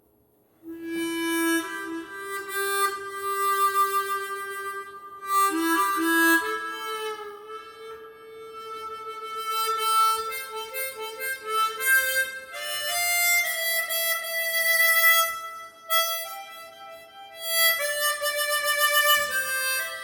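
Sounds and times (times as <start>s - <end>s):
harmonica slow melody: 0.6s - 20.0s.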